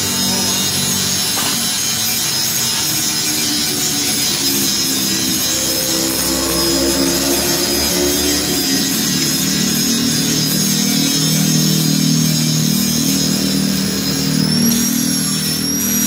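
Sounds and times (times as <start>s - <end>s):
two-stroke motorcycle engine: 0.0s - 16.0s.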